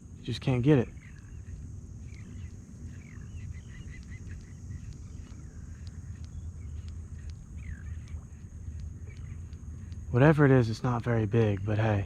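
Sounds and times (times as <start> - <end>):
birds chirping: 0.0 - 12.0
faint clicks: 0.9 - 11.8.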